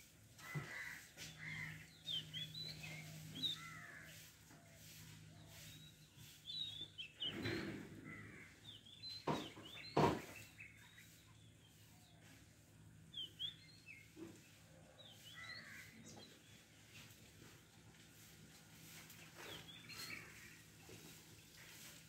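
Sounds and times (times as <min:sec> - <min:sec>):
small birds chirping: 0:00.5 - 0:22.0.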